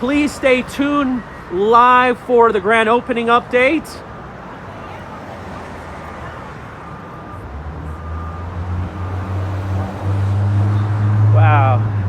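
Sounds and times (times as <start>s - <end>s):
street traffic: 0.0s - 12.0s
vehicle engine hum: 0.0s - 12.0s.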